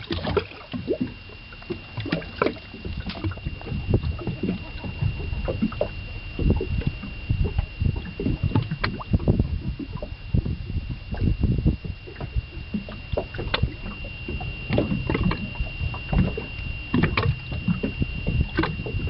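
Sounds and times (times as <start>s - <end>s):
knocks and thumps on boat: 0.0s - 19.0s
water lapping at hull: 0.0s - 19.0s.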